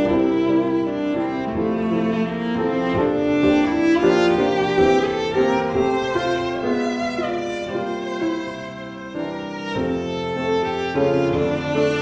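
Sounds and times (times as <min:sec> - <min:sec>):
violin and bowed strings melody: 0:00.0 - 0:12.0.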